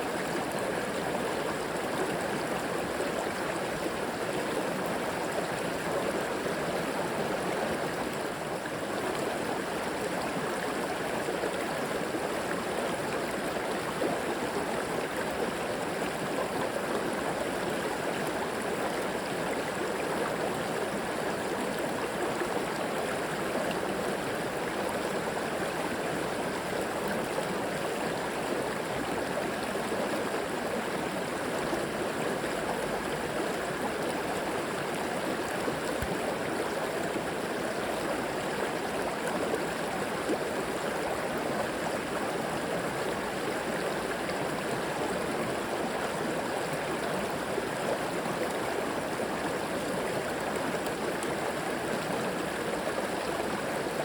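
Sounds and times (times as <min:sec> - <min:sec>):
river water gurgling over rocks: 0:00.0 - 0:54.0.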